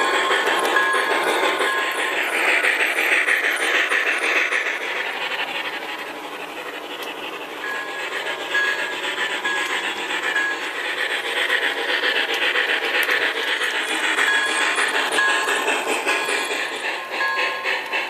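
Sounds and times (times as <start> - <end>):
model train wheels rattling on rail: 0.0 - 18.0.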